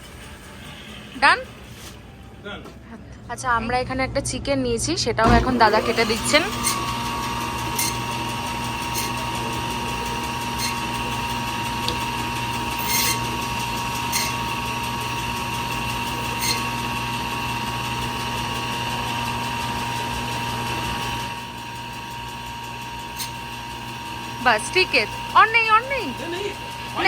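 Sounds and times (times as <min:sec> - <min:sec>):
electric meat band saw running: 0:05.2 - 0:27.0.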